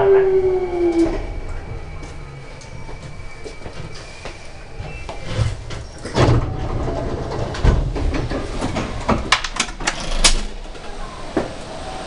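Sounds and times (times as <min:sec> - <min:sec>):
train rumble: 0:00.0 - 0:12.0
sliding doors clunking: 0:00.7 - 0:12.0.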